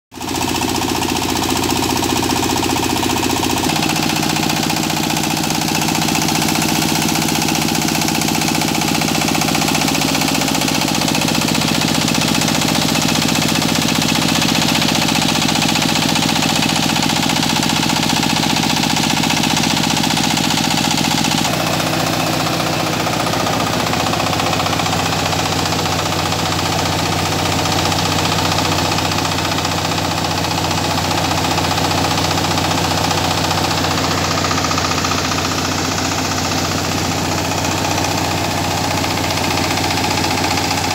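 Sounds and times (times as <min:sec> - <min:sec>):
rice milling machine: 0:00.1 - 0:40.9
diesel engine running under load: 0:00.2 - 0:40.9.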